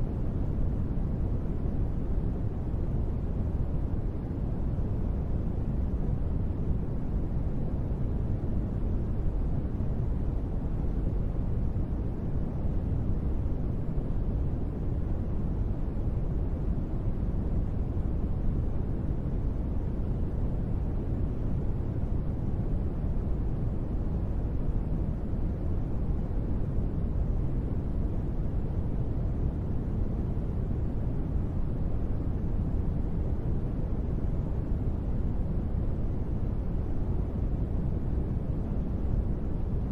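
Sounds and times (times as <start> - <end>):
deep white noise rush: 0.0 - 39.9.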